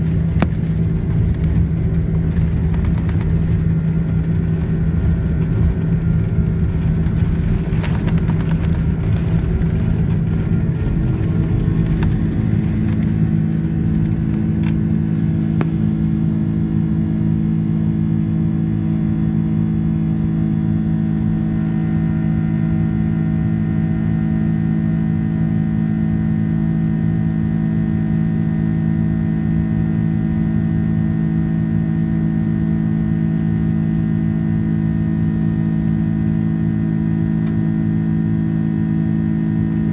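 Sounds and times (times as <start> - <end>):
airplane cabin rumble and rattle: 0.0 - 39.9
jet engine drone: 0.0 - 39.9.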